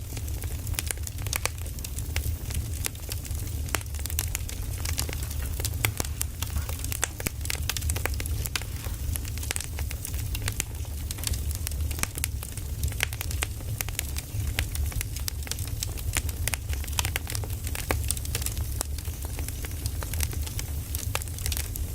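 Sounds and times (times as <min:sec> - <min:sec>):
burning firewood crackling: 0:00.0 - 0:21.9.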